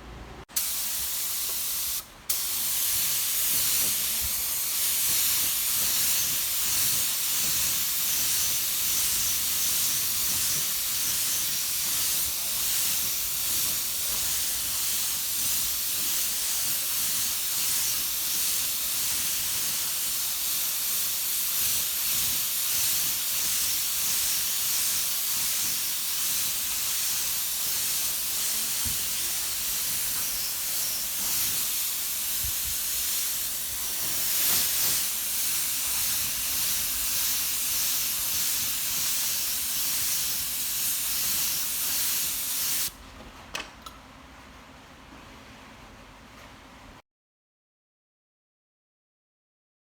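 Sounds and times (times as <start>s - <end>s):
paint spray hissing: 0.5s - 42.9s.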